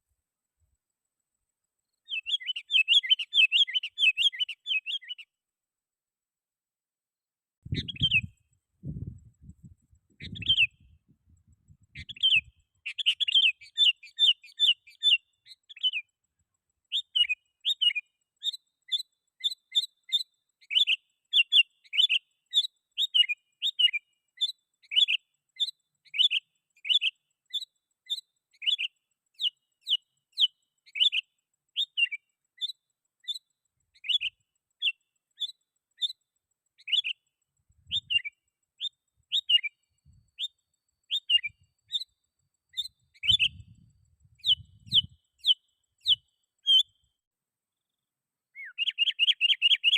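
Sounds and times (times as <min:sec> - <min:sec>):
bulbul chirping: 0:02.0 - 0:05.3, 0:07.7 - 0:16.1, 0:16.8 - 0:47.0, 0:48.6 - 0:49.9.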